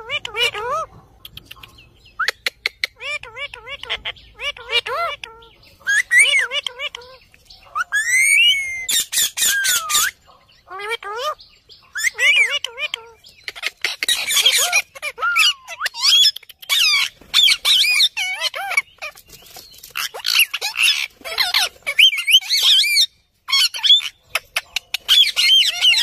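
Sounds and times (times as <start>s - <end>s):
parakeets squawking and chattering: 0.0s - 26.0s.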